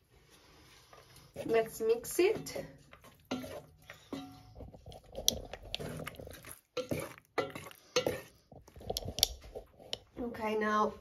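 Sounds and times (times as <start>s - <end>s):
spatula stirring wet pasta: 0.0s - 10.5s.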